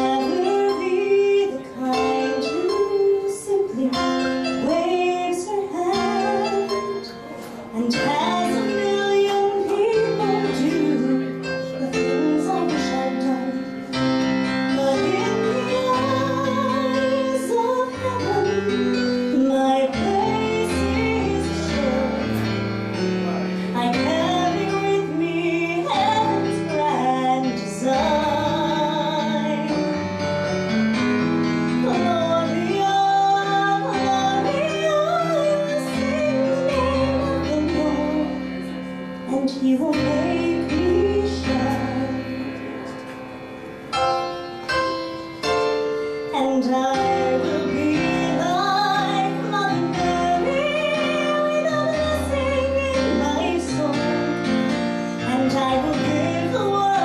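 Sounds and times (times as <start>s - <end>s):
woman singing: 0.0s - 22.9s, 23.6s - 30.2s, 31.7s - 42.8s, 46.2s - 57.0s
piano accompaniment: 0.0s - 57.0s.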